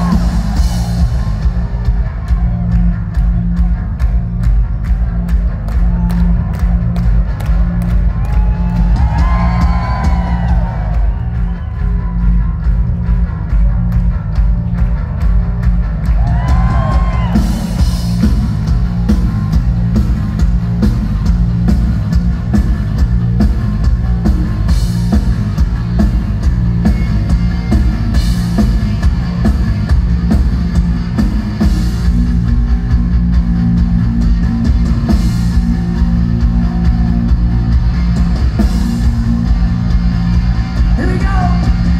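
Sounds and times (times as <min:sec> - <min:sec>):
drum kit beat: 0:00.0 - 0:41.9
electric bass: 0:00.0 - 0:41.9.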